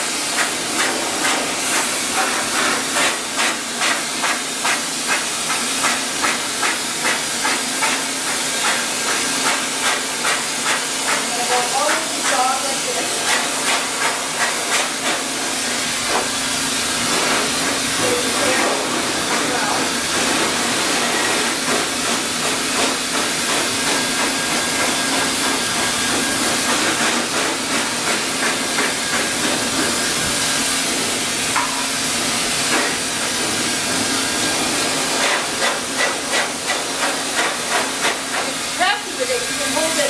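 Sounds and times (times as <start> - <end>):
force dryer blowing air: 0.0 - 40.0.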